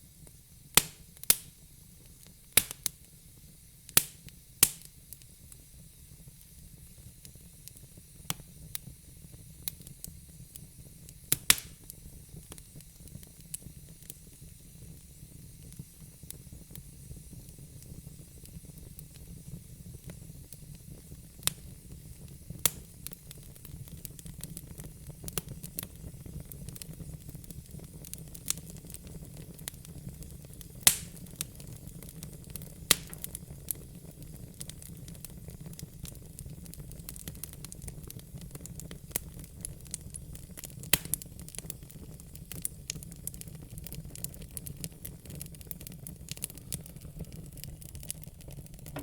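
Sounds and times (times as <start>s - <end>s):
fire crackling and popping: 0.0s - 49.0s.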